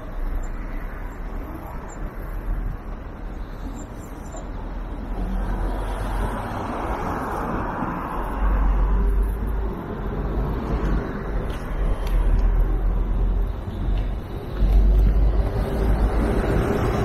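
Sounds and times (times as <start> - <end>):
street traffic noise: 0.0 - 17.0
wind rumbling on microphone: 0.1 - 17.0.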